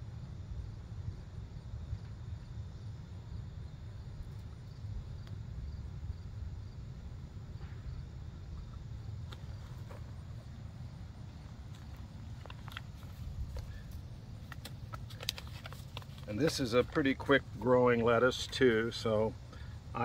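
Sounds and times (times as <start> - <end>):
insects chirping: 0.0 - 20.0
steady low rumble: 0.0 - 20.0.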